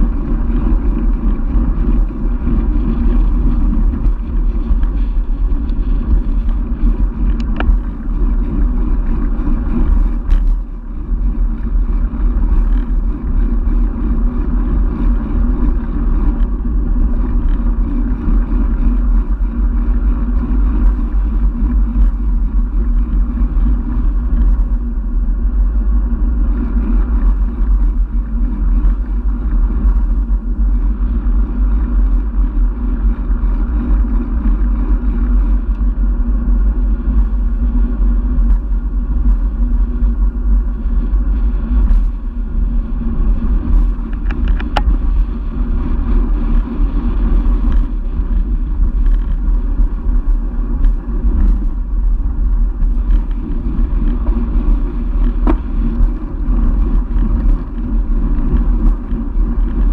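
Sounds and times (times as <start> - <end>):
tyres rumbling on asphalt: 0.0 - 59.9
wind rushing over microphone: 0.0 - 59.9.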